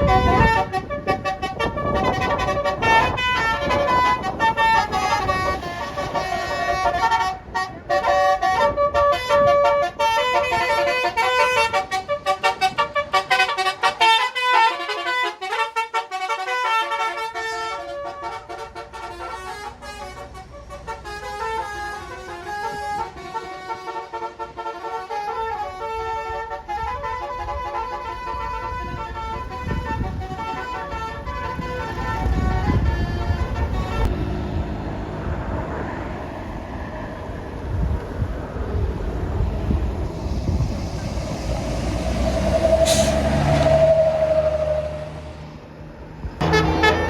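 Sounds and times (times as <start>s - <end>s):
bus air horn playing tune: 0.0s - 34.4s, 38.7s - 45.2s, 46.4s - 47.0s
engine and road rumble: 0.0s - 47.0s.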